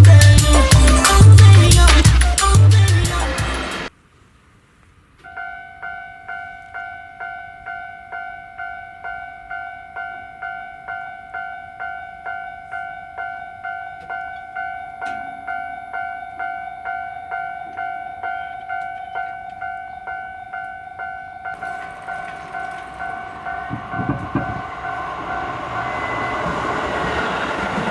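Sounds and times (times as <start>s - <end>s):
level crossing alarm ringing: 5.2s - 27.9s.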